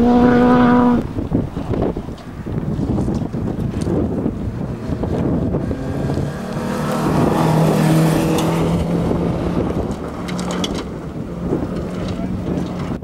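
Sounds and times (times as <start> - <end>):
car engine revving high: 0.0 - 1.9, 4.0 - 13.0
tyres on gravel: 0.0 - 13.0
wind buffeting microphone: 0.0 - 13.0.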